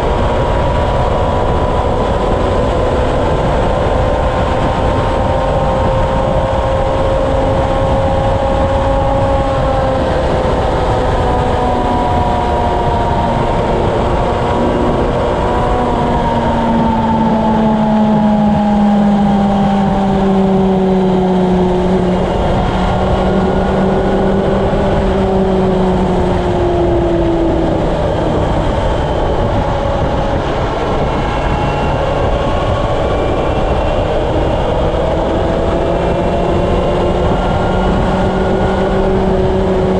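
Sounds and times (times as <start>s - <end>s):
motorcycle engine at highway speed: 0.0s - 39.9s
wind noise on microphone: 0.0s - 39.9s.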